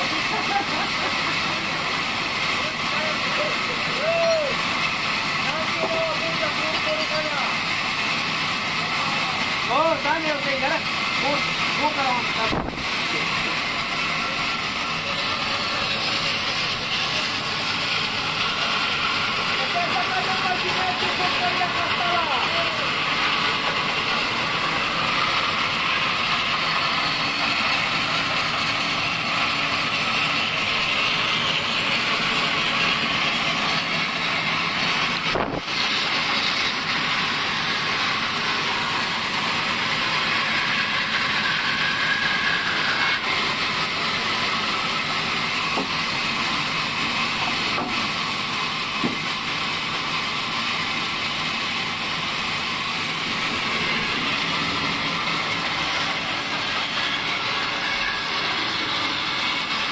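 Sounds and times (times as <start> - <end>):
band sawmill sawing log: 0.0 - 59.9.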